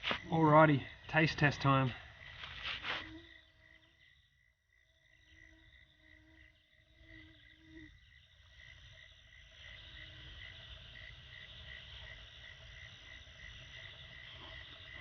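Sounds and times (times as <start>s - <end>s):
high buzzing insect chorus: 0.0s - 15.0s
pulsing cricket-like chirp: 0.0s - 15.0s.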